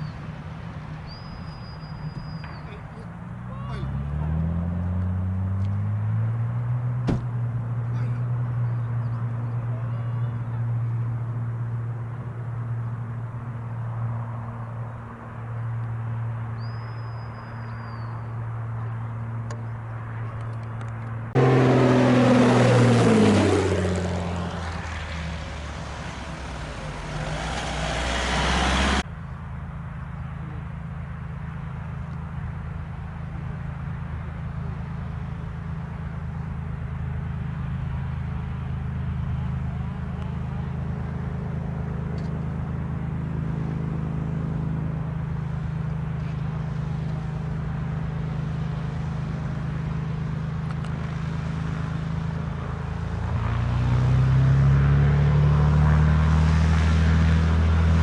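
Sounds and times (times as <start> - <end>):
aircraft passing by: 0.0 - 58.0
light aircraft engine droning: 0.0 - 58.0.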